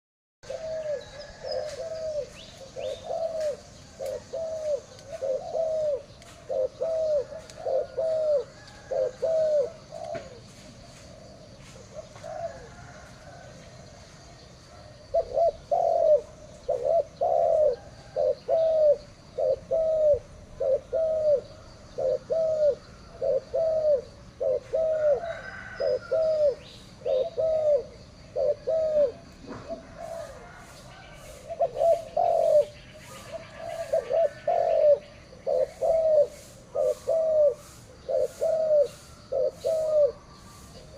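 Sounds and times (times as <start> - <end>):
dove cooing: 0.4 - 10.6, 11.9 - 13.5, 14.7 - 40.9.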